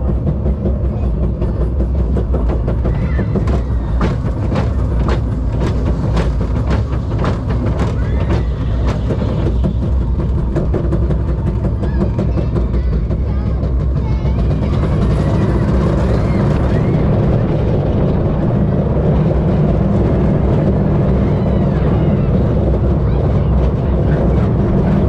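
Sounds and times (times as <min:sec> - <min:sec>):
lift hill clacks: 0:00.0 - 0:25.0
roller coaster lift rumble: 0:00.0 - 0:25.0.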